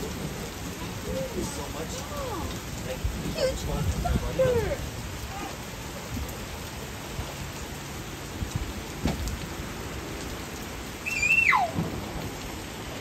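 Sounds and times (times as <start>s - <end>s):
heavy rain on pavement and cars: 0.0s - 13.0s.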